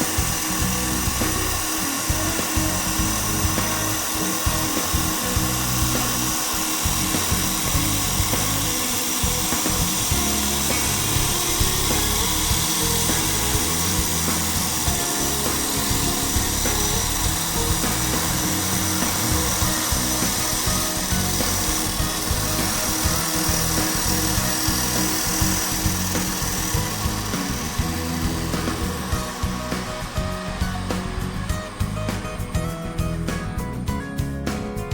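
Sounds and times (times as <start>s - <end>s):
wood lathe whining: 0.0s - 33.7s
background music: 0.0s - 34.9s.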